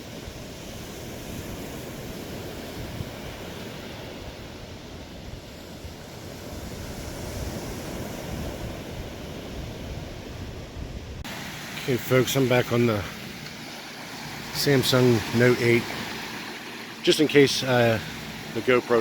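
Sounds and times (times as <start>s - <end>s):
wind rumbling on microphone: 0.0s - 17.1s
surf washing onto beach: 0.0s - 19.0s.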